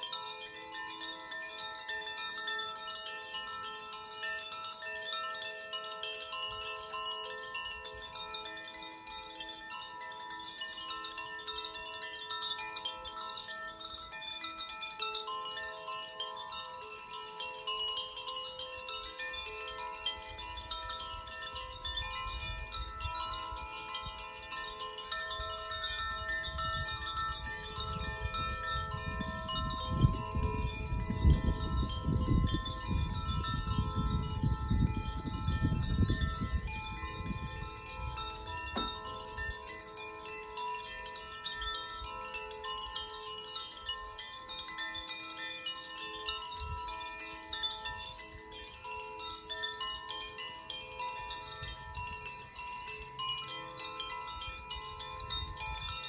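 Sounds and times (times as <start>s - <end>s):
chimes ringing: 0.0s - 56.0s.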